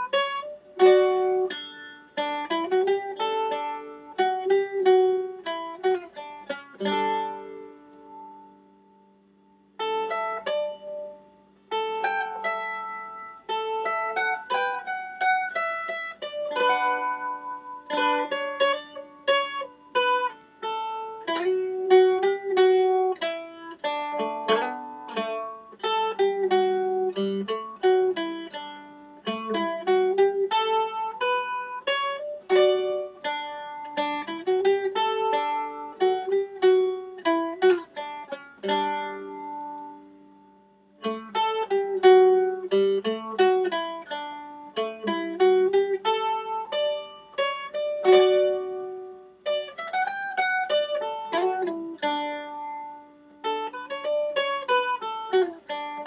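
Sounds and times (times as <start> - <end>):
solo mandolin playing: 0.0 - 56.0.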